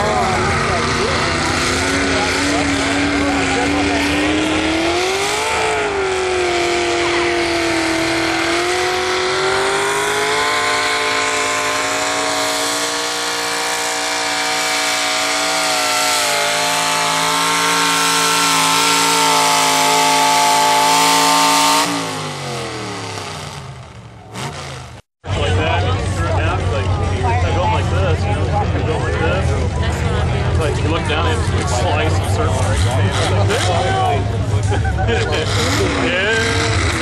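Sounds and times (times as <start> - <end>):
truck engine at high revs: 0.0 - 37.0.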